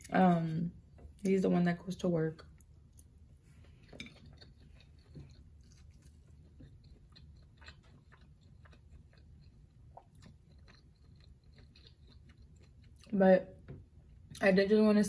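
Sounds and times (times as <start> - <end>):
faint chewing: 2.4 - 14.4.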